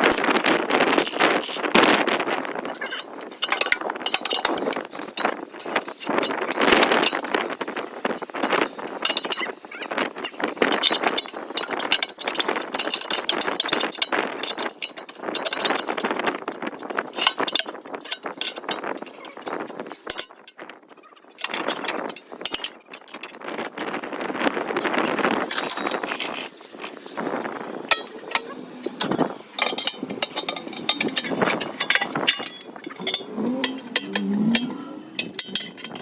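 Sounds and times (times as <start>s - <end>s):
metal tools clinking and scraping: 0.0s - 36.0s.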